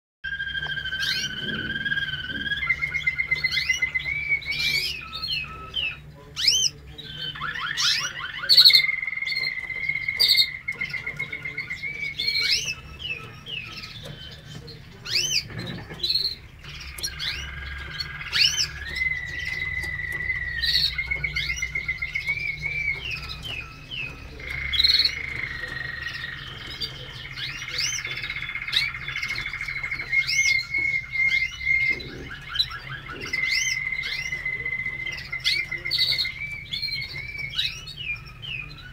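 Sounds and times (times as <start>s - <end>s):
canaries singing: 0.2s - 38.9s
faint low hum: 0.3s - 38.9s.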